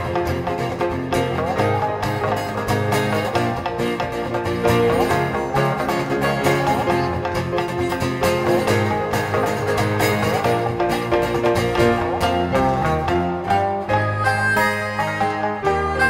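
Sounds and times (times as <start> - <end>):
acoustic guitar: 0.0 - 16.0
shamisen plucking: 0.0 - 16.0.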